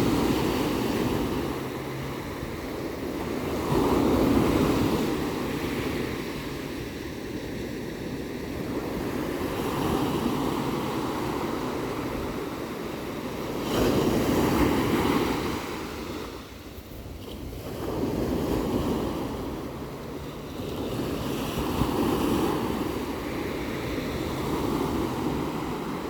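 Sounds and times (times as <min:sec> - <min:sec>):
ocean surf washing ashore: 0:00.0 - 0:26.0.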